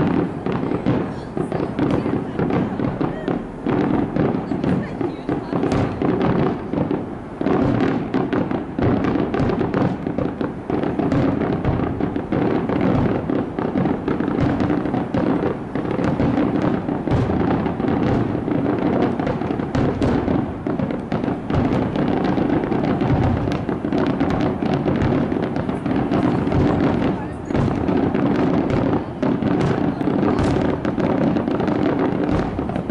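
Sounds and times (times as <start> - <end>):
fireworks bangs: 0.0 - 32.9.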